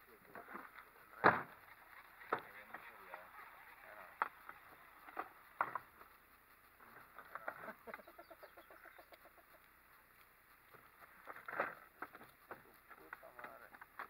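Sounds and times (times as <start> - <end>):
faint bird clucking: 0.0 - 14.0.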